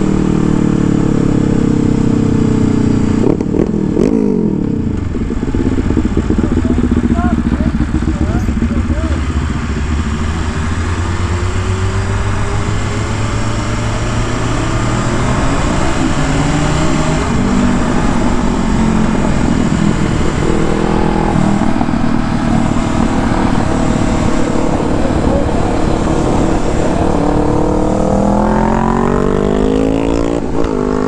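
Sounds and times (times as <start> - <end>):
motorcycle engine accelerating: 0.0 - 31.0
wind noise: 3.0 - 31.0.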